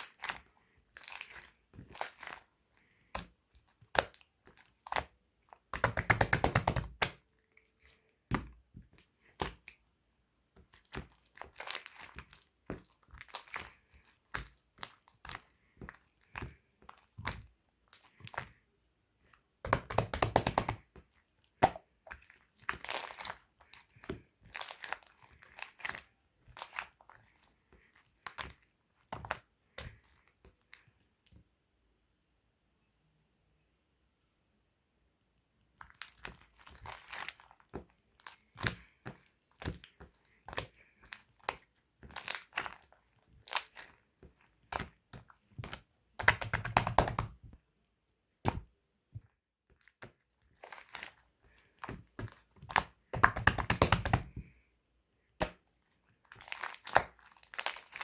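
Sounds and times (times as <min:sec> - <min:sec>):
slime squished by hand: 0:00.0 - 0:09.8, 0:10.6 - 0:18.6, 0:19.6 - 0:30.9, 0:35.8 - 0:47.6, 0:48.4 - 0:54.6, 0:55.3 - 0:58.0.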